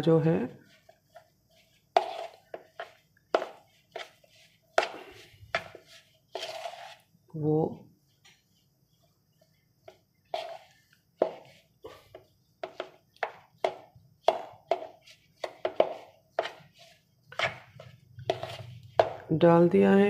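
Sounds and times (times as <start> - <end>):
hand mixing mashed potatoes: 0.0 - 19.6.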